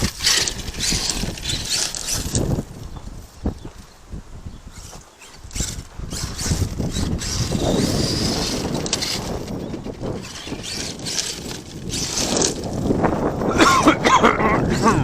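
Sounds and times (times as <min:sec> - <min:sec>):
electric motor noise: 0:00.0 - 0:13.5
tyres on dirt and gravel: 0:00.0 - 0:15.0.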